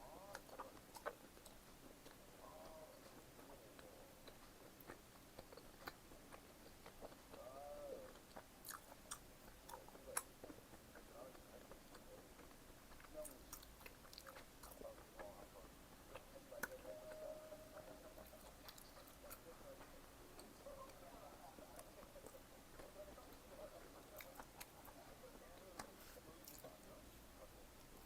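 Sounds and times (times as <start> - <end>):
chewing food: 0.0 - 28.0.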